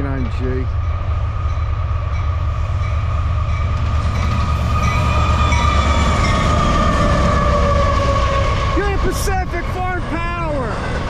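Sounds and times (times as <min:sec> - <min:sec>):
diesel locomotive rumble: 0:00.0 - 0:11.0.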